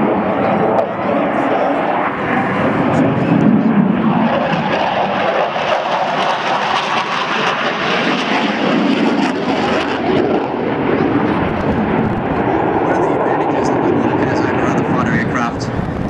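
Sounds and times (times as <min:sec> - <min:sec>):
fighter jet engine noise: 0:00.0 - 0:16.0.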